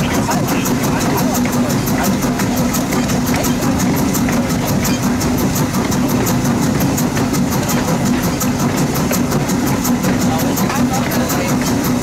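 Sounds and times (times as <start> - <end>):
steam locomotive rumbling and ticking: 0.0 - 12.0.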